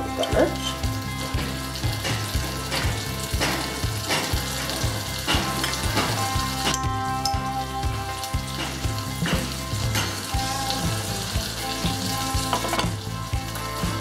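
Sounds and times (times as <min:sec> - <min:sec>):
instrumental background music: 0:00.0 - 0:14.0
oil sizzling in a pan: 0:00.0 - 0:14.0.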